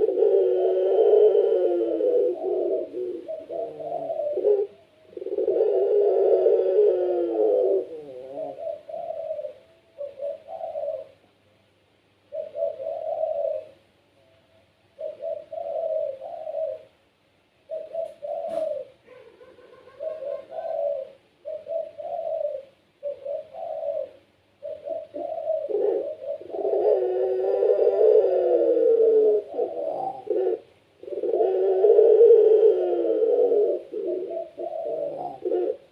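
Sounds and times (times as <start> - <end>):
dove cooing: 0.0 - 11.4, 12.2 - 35.9.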